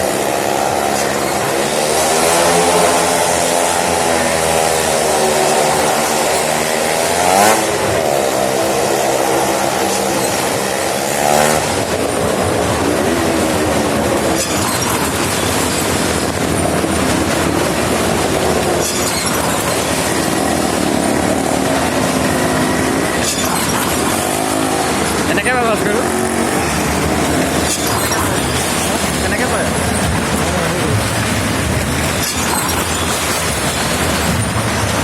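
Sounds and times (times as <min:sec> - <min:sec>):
motorcycle and car engines passing: 0:00.0 - 0:35.0.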